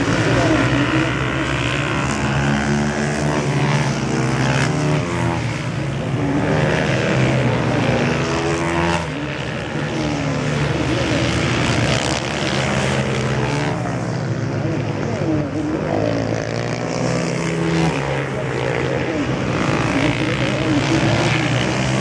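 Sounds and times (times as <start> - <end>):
racing motorcycles accelerating: 0.0 - 22.0.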